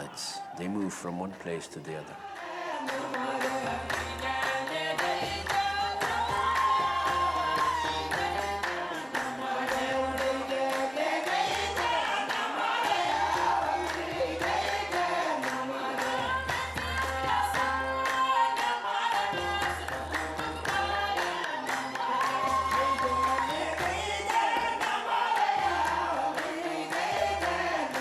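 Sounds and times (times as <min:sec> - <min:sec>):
group chanting: 0:00.0 - 0:28.0.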